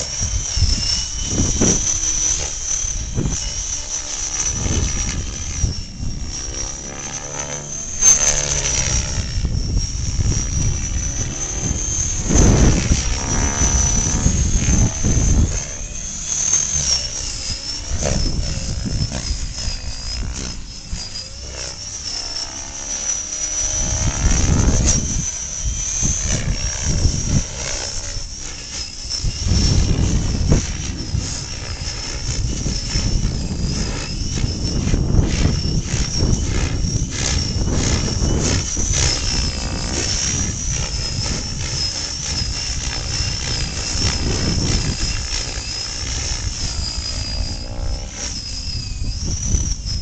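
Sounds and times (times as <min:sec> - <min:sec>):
helicopter motor whine: 0:00.0 - 0:50.0
rotor rushing: 0:00.0 - 0:50.0.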